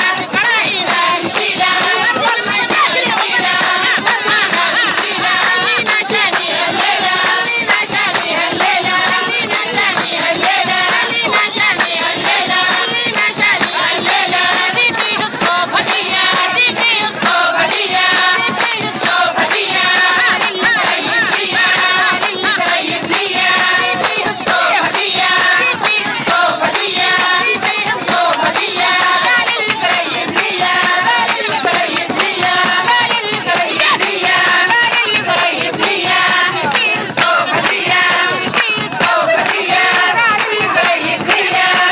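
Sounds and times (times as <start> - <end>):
hand clapping: 0.0 - 41.9
loud singing over music: 0.0 - 41.9.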